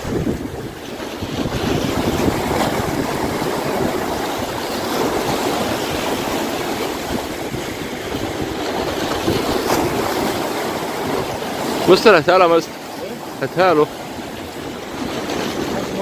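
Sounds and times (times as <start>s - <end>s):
waves breaking against rocks: 0.0s - 16.0s.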